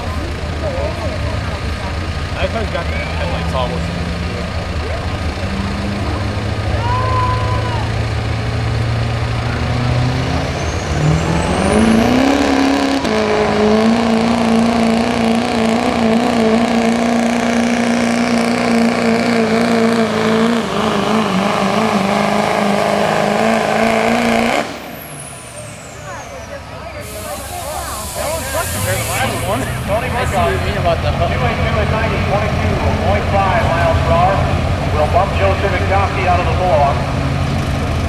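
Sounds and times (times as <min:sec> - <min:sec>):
diesel truck engine revving: 0:00.0 - 0:38.0.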